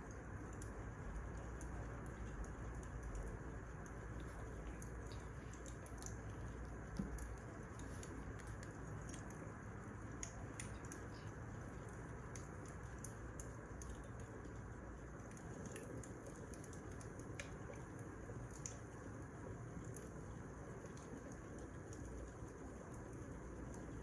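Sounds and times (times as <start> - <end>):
wood fire crackling: 0.1 - 24.0.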